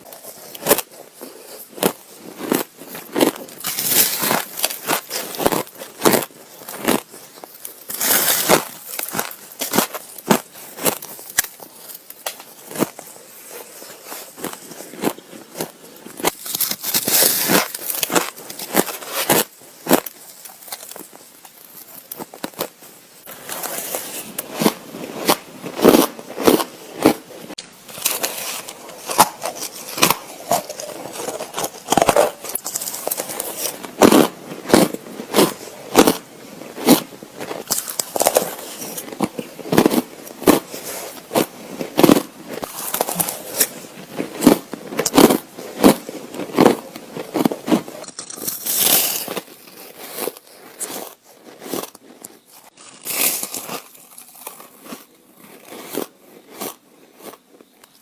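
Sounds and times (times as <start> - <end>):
person crunching ice: 0.0 - 58.0.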